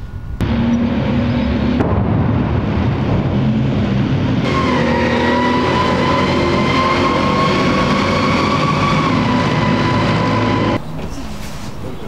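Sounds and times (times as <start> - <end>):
high whine: 0.0 - 10.8
tracked vehicle engine: 0.4 - 12.0.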